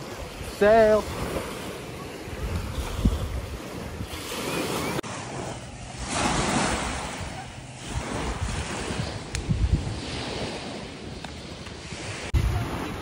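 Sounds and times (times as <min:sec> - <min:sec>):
small waves washing onto shore: 0:00.0 - 0:13.0
wind rumbling on microphone: 0:00.0 - 0:13.0.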